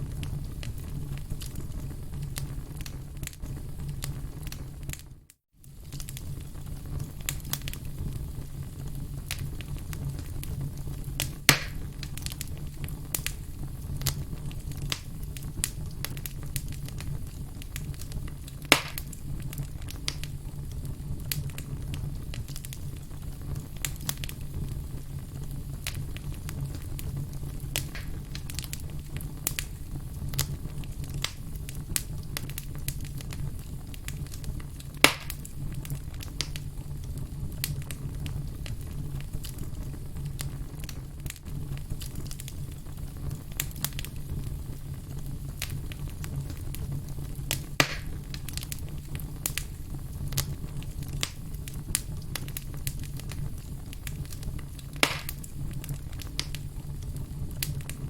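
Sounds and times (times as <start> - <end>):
campfire crackling: 0.0 - 58.0
fire pops: 0.0 - 58.0.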